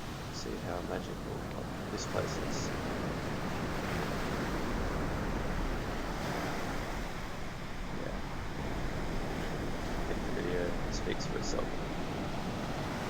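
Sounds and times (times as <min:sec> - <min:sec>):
ocean surf washing on beach: 0:00.0 - 0:13.0
wind buffeting microphone: 0:00.0 - 0:13.0.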